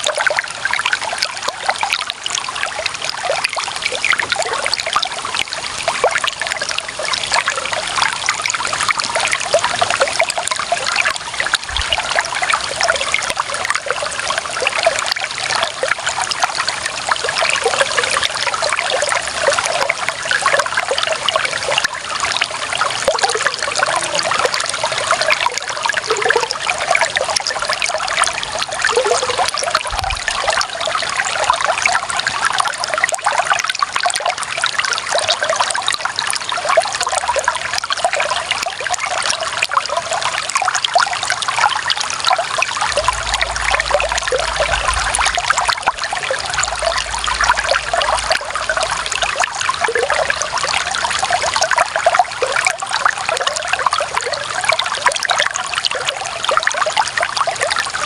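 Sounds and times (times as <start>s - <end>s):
water trickling over stones: 0.0s - 58.0s.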